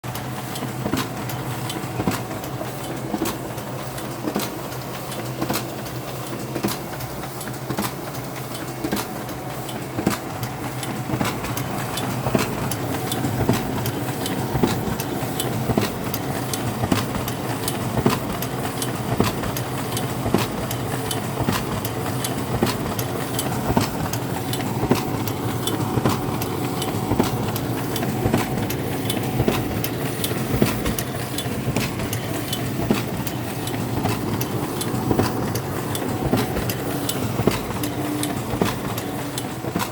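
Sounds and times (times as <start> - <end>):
laser printer humming: 0.1 - 39.9
sharp mechanical clicks: 0.1 - 39.9.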